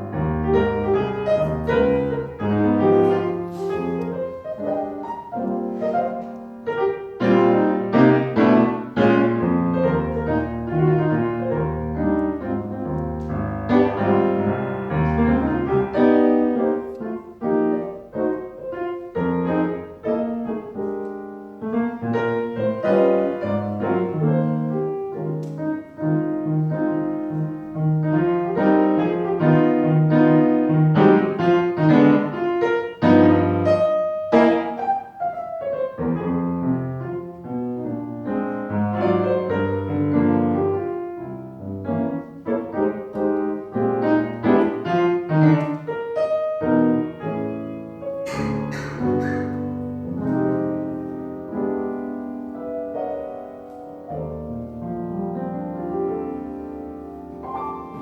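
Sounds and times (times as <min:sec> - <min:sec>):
piano melody over chords: 0:00.0 - 0:58.0.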